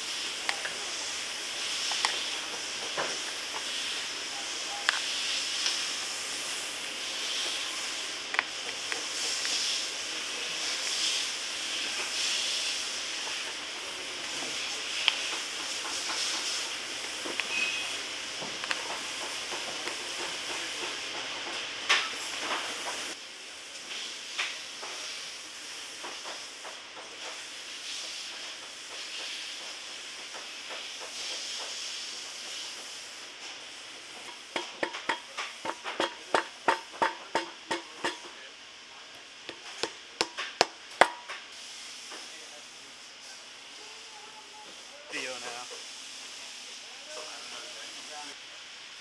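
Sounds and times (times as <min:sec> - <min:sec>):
steady background hiss: 0:00.0 - 0:49.0.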